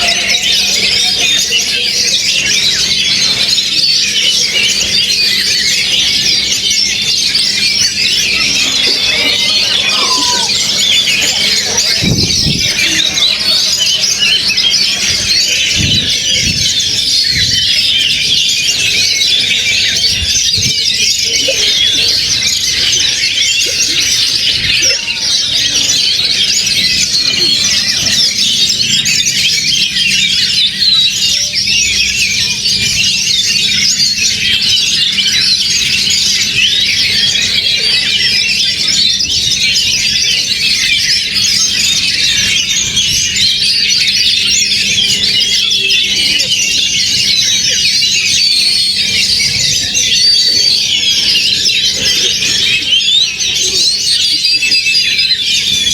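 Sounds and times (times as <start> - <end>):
birds singing in chorus: 0.0 - 55.9.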